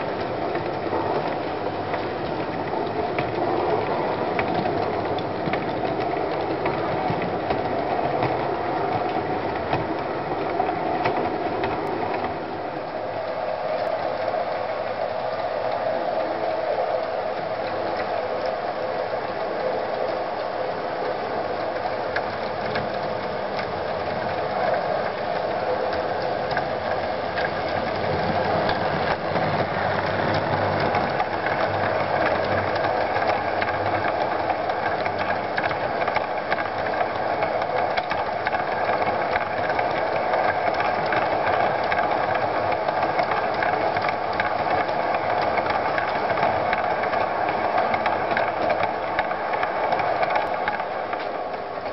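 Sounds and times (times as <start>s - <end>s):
wheels clicking on track: 0.0s - 51.9s.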